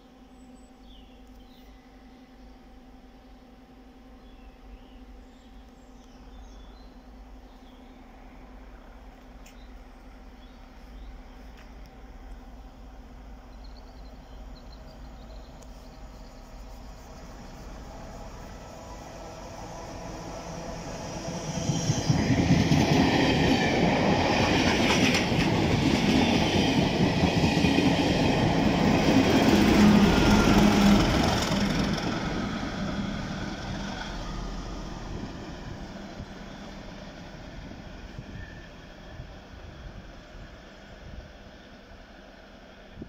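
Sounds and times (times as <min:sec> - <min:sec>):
diesel locomotive engine: 0:00.0 - 0:43.0.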